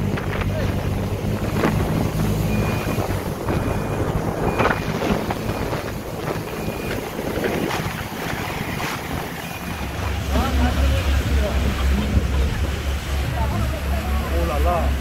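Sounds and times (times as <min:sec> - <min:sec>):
boat motor running: 0:00.0 - 0:15.0
wind buffeting microphone: 0:00.0 - 0:15.0.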